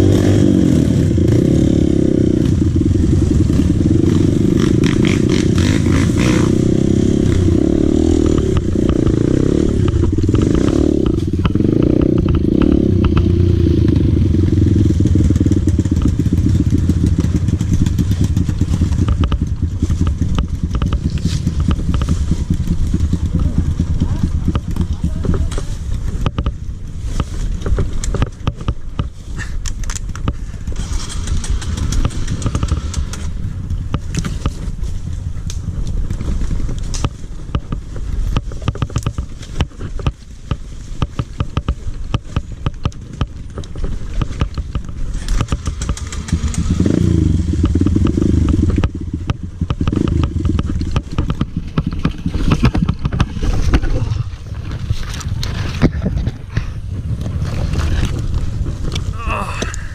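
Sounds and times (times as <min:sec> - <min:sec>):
dirt bike engine running: 0:00.0 - 0:59.9
knocks and rattles: 0:02.6 - 0:34.8, 0:36.0 - 0:59.7.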